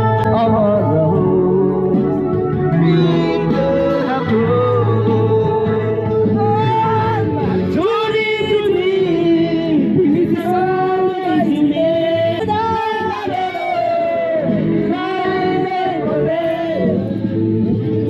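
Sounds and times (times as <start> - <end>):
person singing long notes: 0.0 - 17.1
music accompaniment: 0.0 - 18.0.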